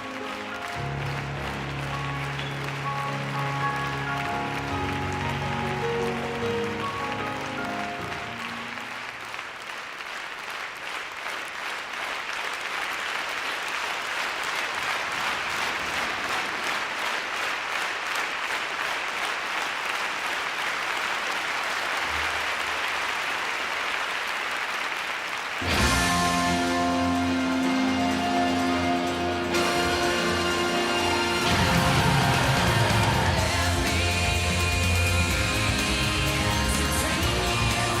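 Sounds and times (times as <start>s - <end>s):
large audience applauding: 0.0s - 38.0s.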